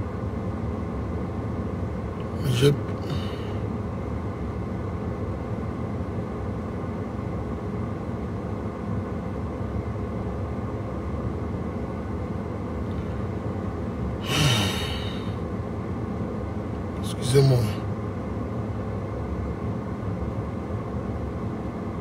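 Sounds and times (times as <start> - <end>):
car engine idling inside cabin: 0.0 - 22.0.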